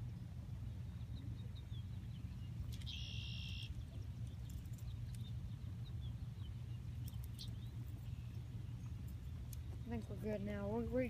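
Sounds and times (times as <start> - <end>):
faint bird chirps: 1.0 - 9.9.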